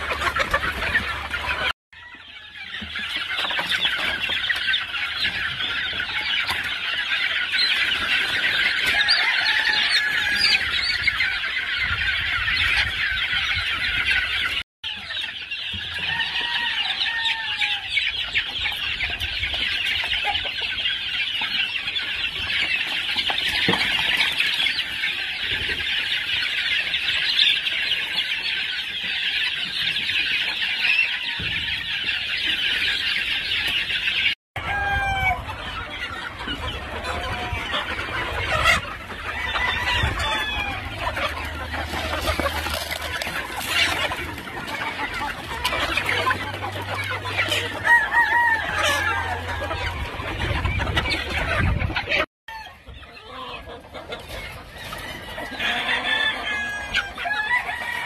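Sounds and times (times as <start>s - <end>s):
flock of chickens clucking: 0.0s - 58.0s.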